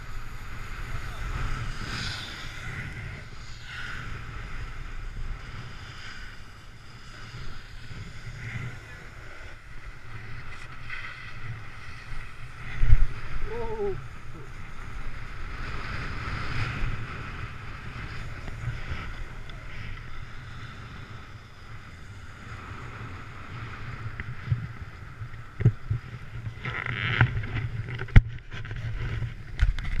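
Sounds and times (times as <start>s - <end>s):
snowboard sliding over snow: 0.0s - 30.0s
wind rushing on microphone: 0.0s - 30.0s.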